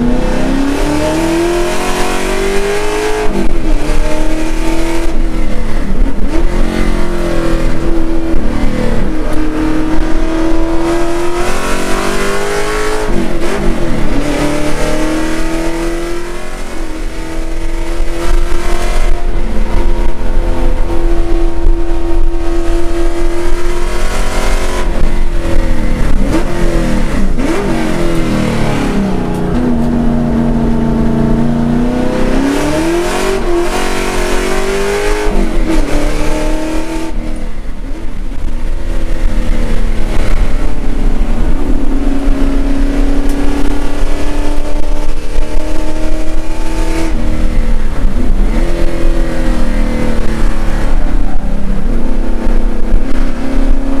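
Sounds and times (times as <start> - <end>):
race car engine under load: 0.0 - 54.0.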